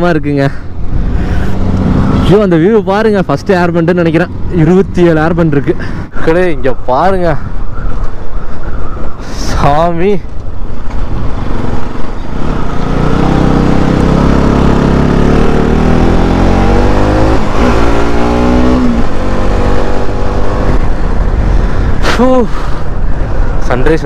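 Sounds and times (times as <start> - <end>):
low wind rumble on microphone: 0.7 - 24.0.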